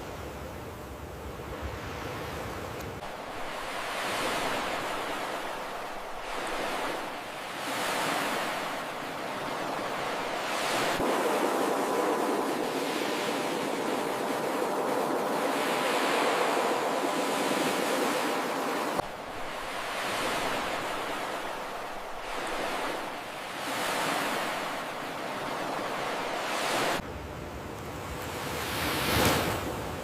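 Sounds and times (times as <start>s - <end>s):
ocean waves breaking: 1.2s - 27.0s.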